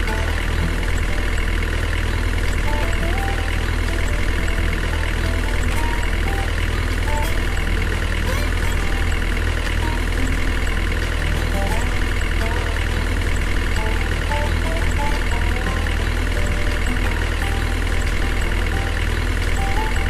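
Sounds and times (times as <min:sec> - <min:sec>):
engine idling hum: 0:00.0 - 0:20.0.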